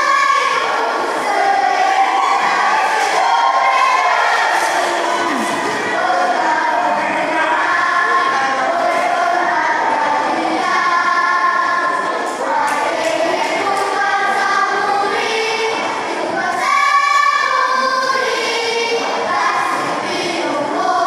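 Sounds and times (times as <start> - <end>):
children's choir singing: 0.0 - 21.0.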